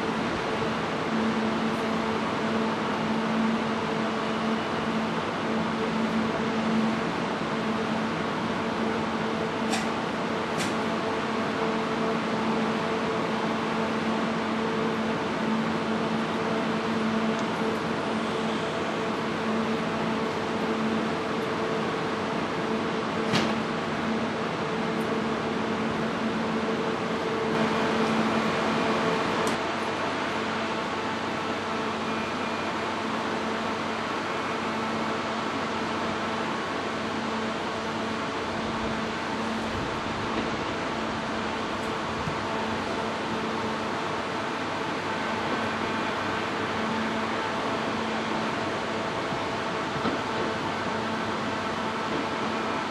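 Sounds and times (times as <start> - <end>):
train hum and fan noise: 0.0 - 52.9.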